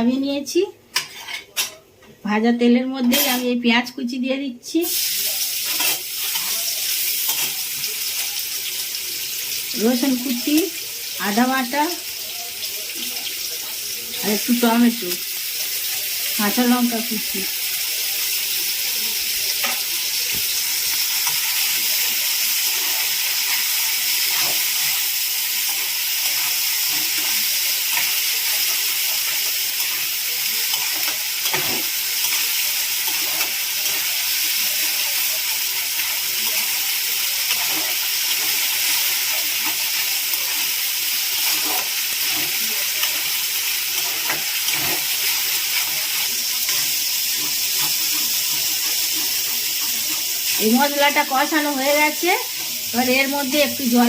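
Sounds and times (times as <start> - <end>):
food sizzling in hot oil: 4.6 - 54.0.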